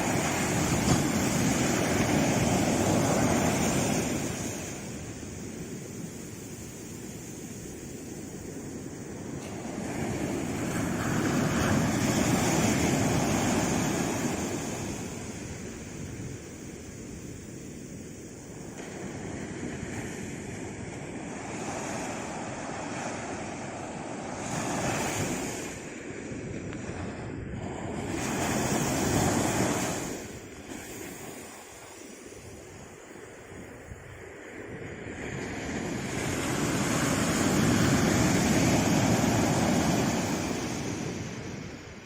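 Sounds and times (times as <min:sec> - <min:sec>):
sea waves breaking on shore: 0:00.0 - 0:42.0
wind on microphone: 0:00.0 - 0:42.0.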